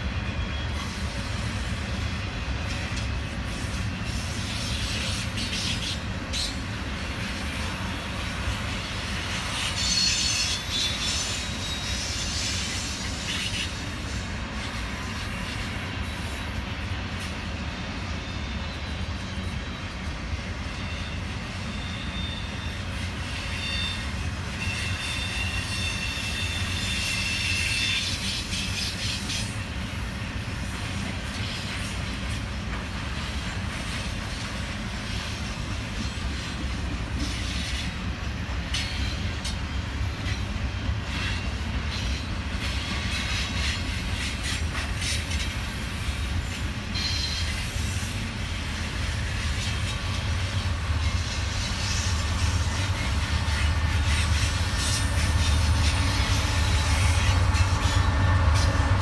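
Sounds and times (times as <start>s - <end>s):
freight train wheels rumbling: 0.0s - 59.0s
high wheel squeal: 3.5s - 16.6s, 18.0s - 29.8s, 35.6s - 59.0s.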